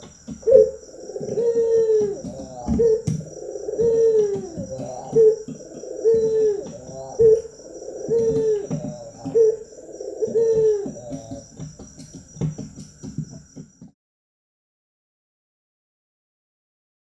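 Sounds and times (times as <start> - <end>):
dove cooing: 0.0 - 13.9.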